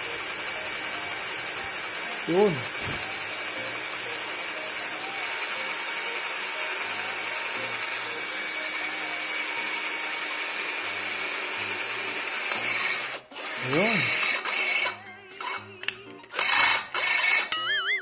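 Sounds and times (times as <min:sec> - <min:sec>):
cordless drill boring into steel pipe: 0:00.0 - 0:15.7, 0:16.3 - 0:17.5.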